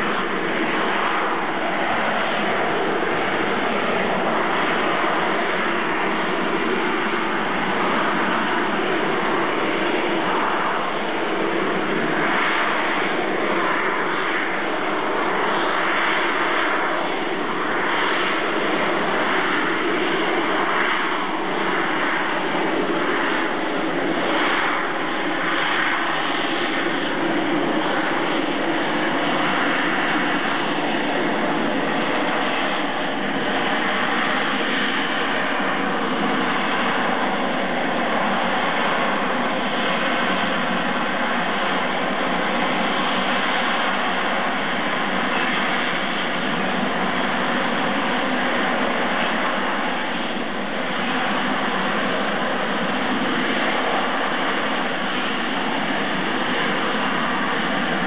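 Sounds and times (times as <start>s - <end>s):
jet aircraft hovering: 0.0s - 58.0s.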